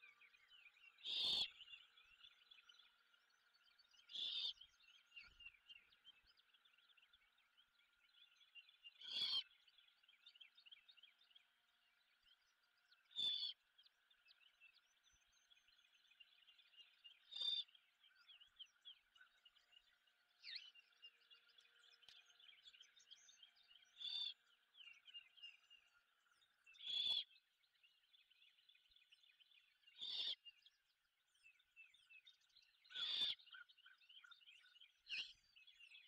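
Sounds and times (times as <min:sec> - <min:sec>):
faint chorus of small chirps: 0:00.0 - 0:36.0.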